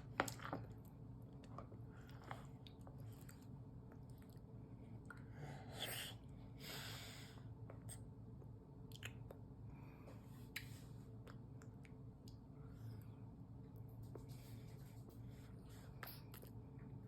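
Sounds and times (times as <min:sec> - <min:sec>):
baby chewing and eating: 0:00.0 - 0:06.3, 0:07.4 - 0:12.9, 0:14.0 - 0:17.0
low steady hum: 0:00.0 - 0:17.0.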